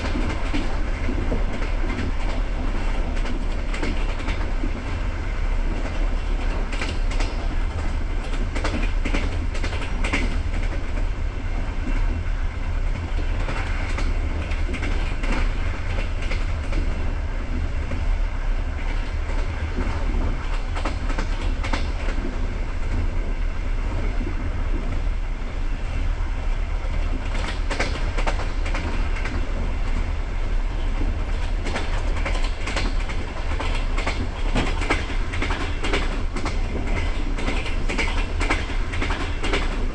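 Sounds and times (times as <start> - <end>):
wheels clacking over rail joints: 0.0 - 5.1, 5.7 - 11.1, 12.9 - 18.1, 18.8 - 23.2, 26.9 - 39.9
train wheels rumbling on rails: 0.0 - 39.9.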